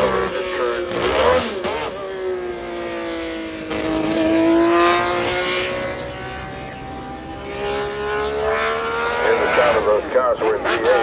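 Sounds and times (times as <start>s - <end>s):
racing car engine running hard: 0.0s - 11.0s.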